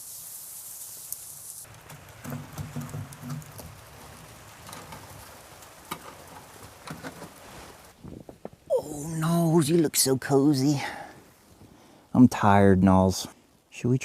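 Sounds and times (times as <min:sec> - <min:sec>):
snow pattering on tent fabric: 0:00.0 - 0:11.8.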